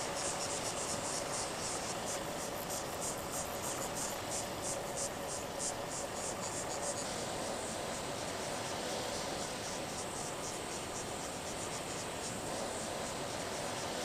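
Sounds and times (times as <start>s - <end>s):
bush ambience hiss: 0.0s - 14.0s
insects chirping in pulses: 0.0s - 14.0s.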